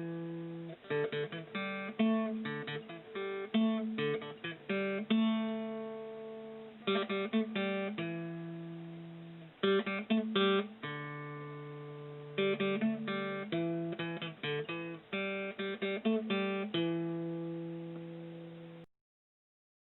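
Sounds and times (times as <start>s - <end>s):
acoustic guitar strumming: 0.0s - 18.8s.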